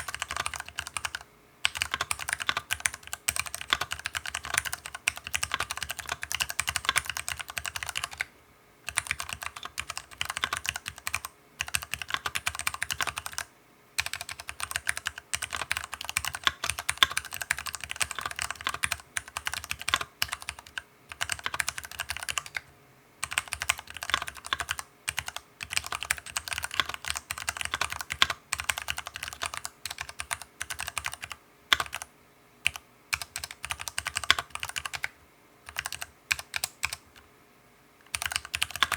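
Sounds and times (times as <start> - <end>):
mechanical keyboard typing: 0.0 - 8.3, 8.9 - 37.2, 38.0 - 38.9.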